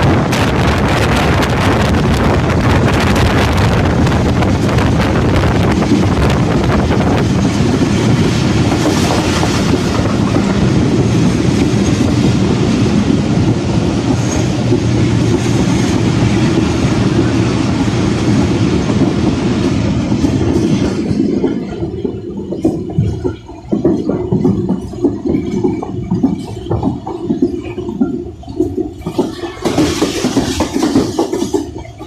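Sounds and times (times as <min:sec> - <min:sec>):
train wheels clattering: 0:00.0 - 0:32.0
train wheels rumbling on rails: 0:00.0 - 0:32.0.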